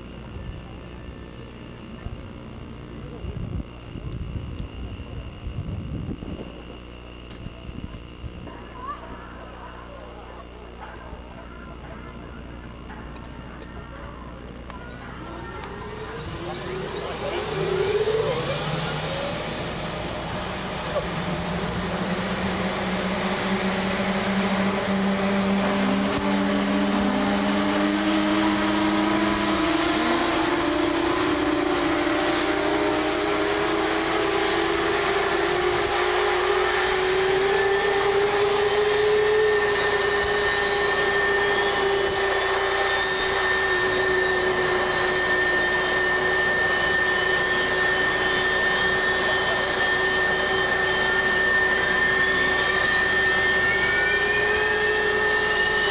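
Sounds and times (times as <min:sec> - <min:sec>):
higher jet whine: 0:00.0 - 0:55.9
jet engines whining: 0:00.0 - 0:55.9.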